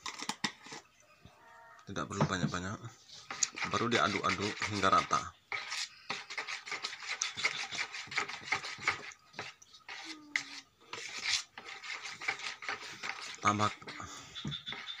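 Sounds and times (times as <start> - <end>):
spoon scraping plastic bowl: 0.0 - 0.9, 2.2 - 15.0.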